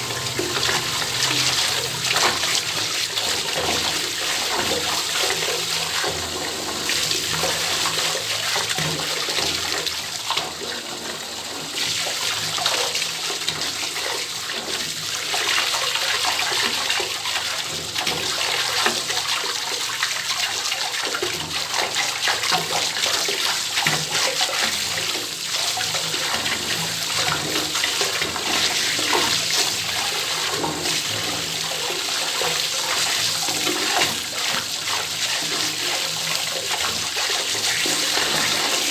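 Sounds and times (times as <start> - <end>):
water pouring from bathtub tap: 0.0 - 38.9.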